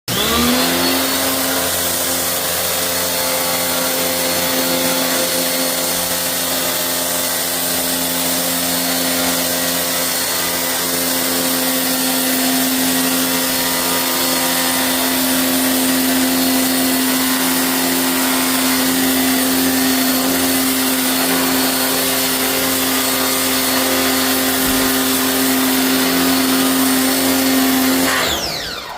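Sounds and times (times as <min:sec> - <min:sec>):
pressure washer pump humming: 0:00.0 - 0:28.9.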